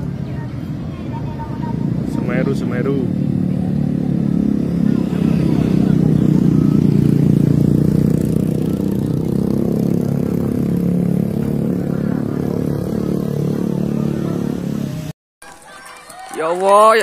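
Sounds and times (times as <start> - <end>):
motor engine droning: 0.0 - 15.1.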